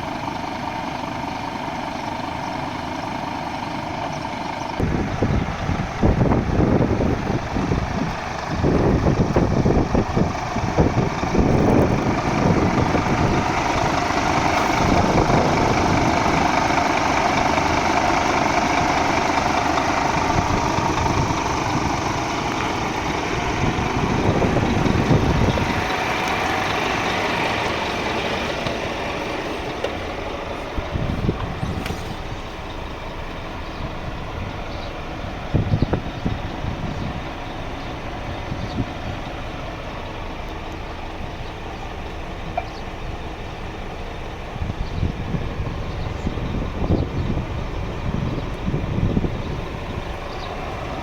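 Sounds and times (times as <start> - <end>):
truck diesel engine rumbling: 0.0 - 51.0.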